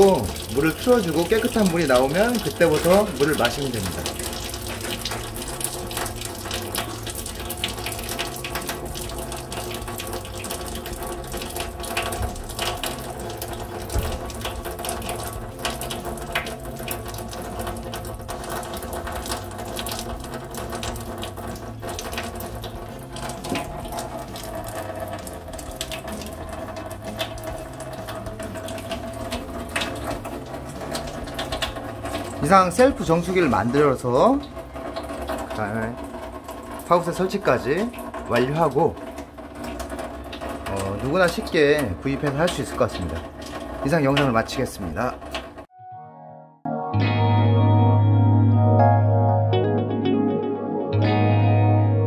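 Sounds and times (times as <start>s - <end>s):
faucet running into steel sink: 0.0s - 45.7s.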